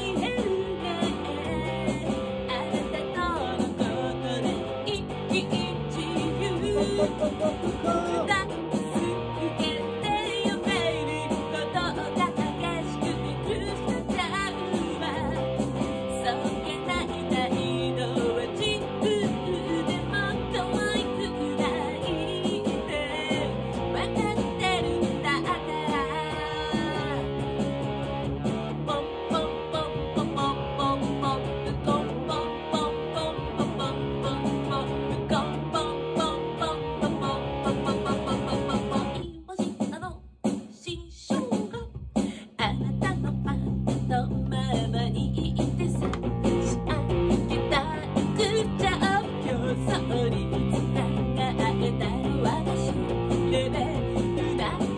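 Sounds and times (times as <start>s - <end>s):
fuzz electric guitar: 0.0s - 39.2s, 42.6s - 54.9s
woman singing pop song: 0.0s - 54.9s.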